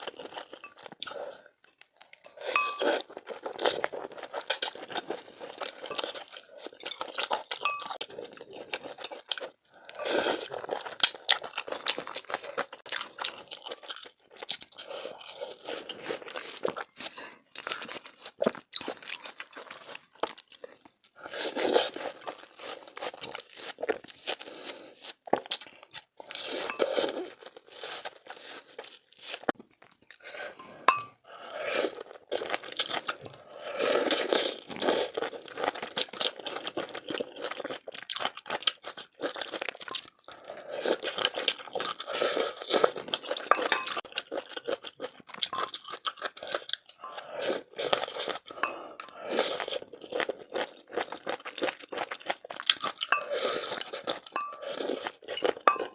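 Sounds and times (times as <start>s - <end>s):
crunching and chewing: 0.0s - 55.9s.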